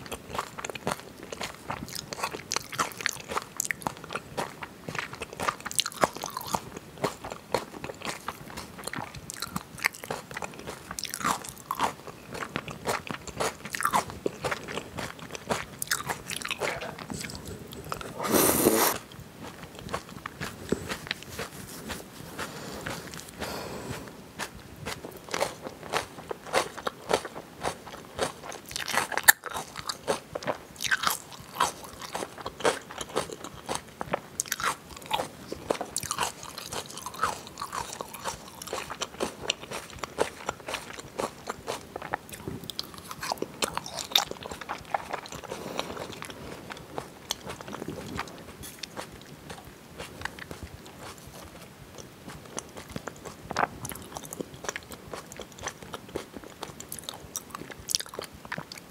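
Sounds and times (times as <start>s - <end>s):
chewing raw fish: 0.0s - 58.9s.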